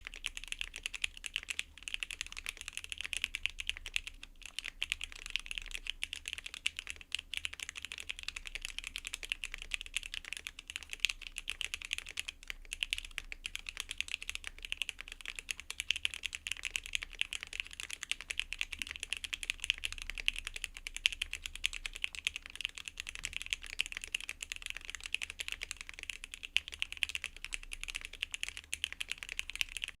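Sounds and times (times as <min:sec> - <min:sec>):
fast mechanical keyboard typing: 0:00.0 - 0:30.0.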